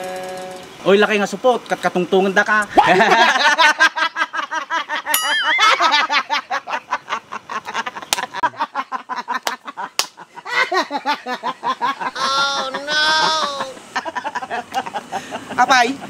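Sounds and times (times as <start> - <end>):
men laughing: 2.7 - 16.0.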